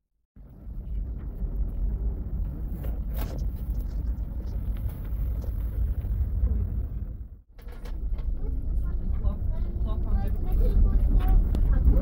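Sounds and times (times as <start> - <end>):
train rumbling inside carriage: 0.4 - 12.0.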